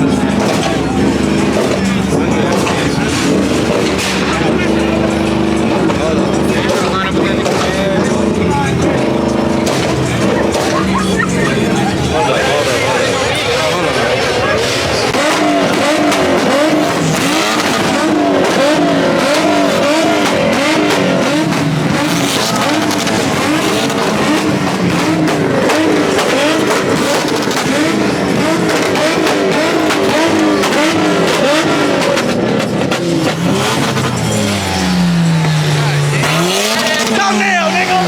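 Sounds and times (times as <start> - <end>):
car engine revving hard: 0.0 - 38.0.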